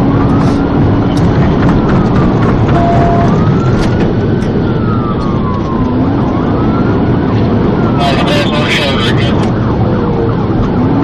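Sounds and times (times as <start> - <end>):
car engine and tyres rumbling: 0.0 - 11.0
police siren wailing: 0.0 - 11.0.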